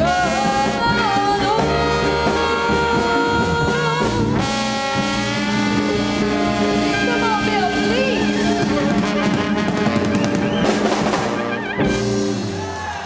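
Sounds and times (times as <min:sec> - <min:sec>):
drum fills: 0:00.0 - 0:13.0
swing band playing: 0:00.0 - 0:13.0.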